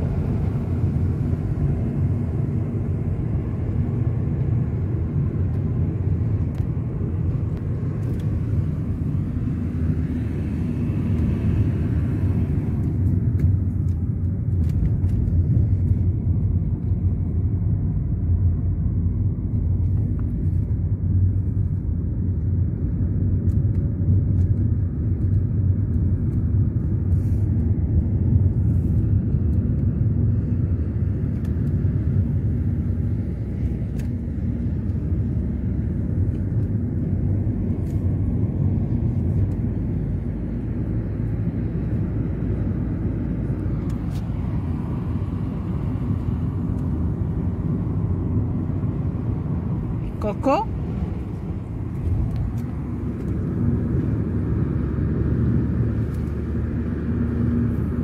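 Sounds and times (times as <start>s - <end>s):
car interior road and engine rumble: 0.0s - 58.0s.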